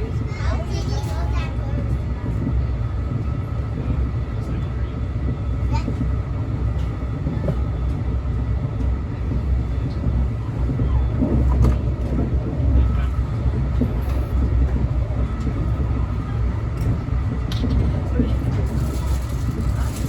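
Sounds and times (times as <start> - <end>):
train rumble inside coach: 0.0 - 20.0.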